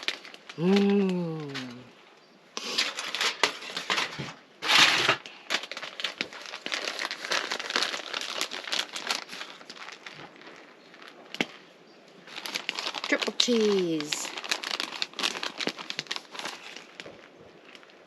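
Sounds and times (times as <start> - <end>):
plastic packaging crinkling: 0.0 - 2.0, 2.6 - 18.0.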